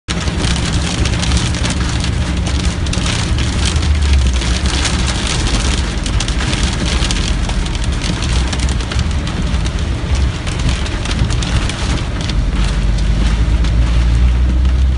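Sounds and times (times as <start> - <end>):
heavy rain drumming on car roof: 0.1 - 14.9
moving car rumble: 0.1 - 14.9.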